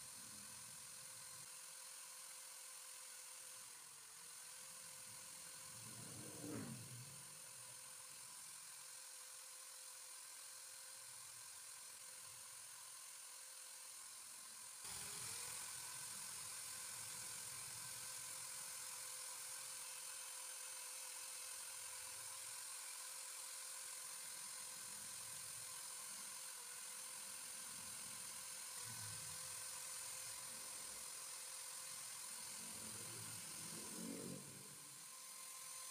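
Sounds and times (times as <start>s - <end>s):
electric drill motor whine: 0.0s - 35.9s.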